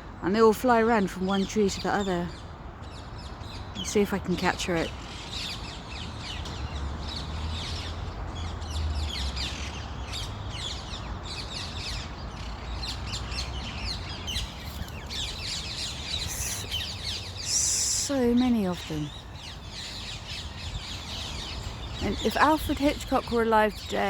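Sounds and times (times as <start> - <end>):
parakeets calling: 1.8 - 24.0.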